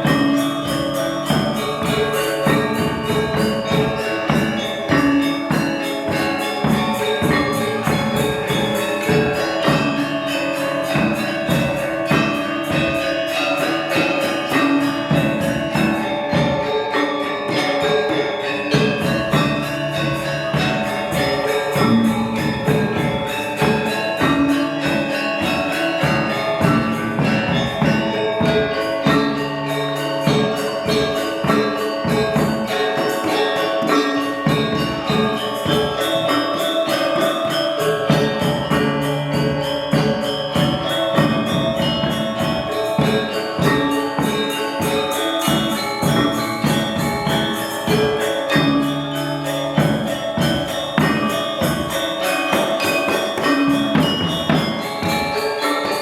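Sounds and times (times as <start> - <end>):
metallophones ringing fast strokes: 0.0 - 56.0.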